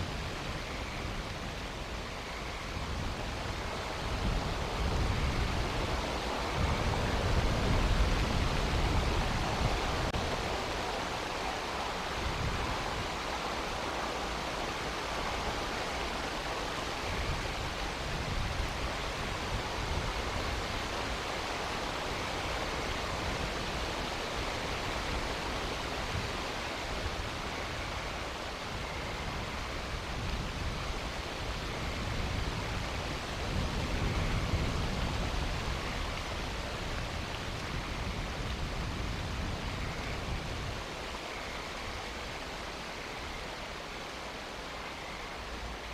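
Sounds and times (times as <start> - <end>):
rain and wind hiss: 0.0 - 45.9.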